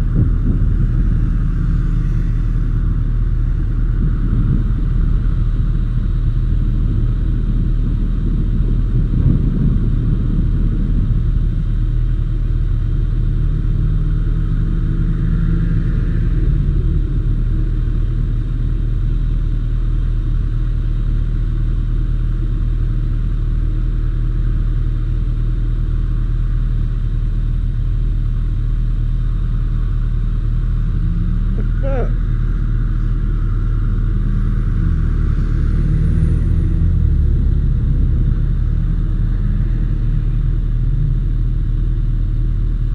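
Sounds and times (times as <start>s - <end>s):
motorcycle engine rumbling: 0.0s - 42.9s.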